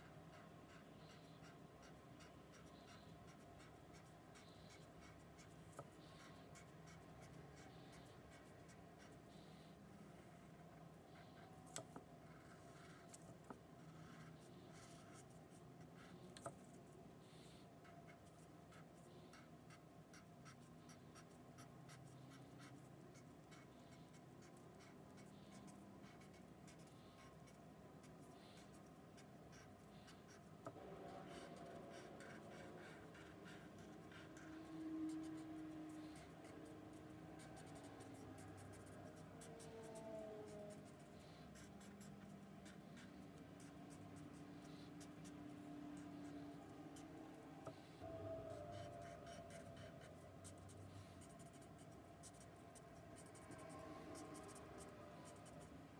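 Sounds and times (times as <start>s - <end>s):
marker scratching on paper: 0.0s - 9.7s, 11.1s - 40.0s, 40.8s - 55.7s.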